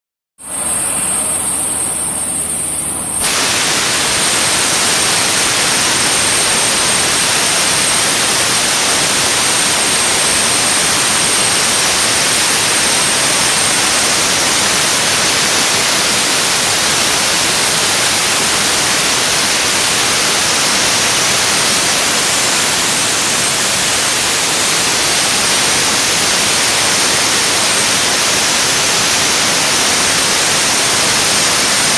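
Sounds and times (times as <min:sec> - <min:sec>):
abrasive blaster hissing: 0:00.5 - 0:31.9.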